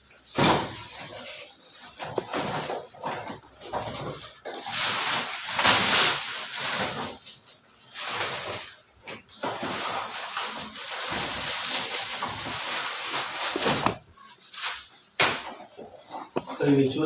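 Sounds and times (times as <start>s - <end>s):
plastic packaging rustling: 0.0s - 17.0s.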